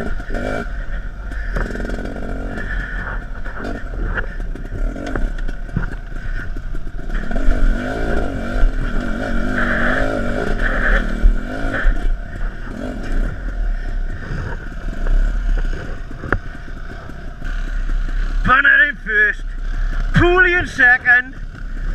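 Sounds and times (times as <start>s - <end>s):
dirt bike engine running: 0.0s - 21.9s.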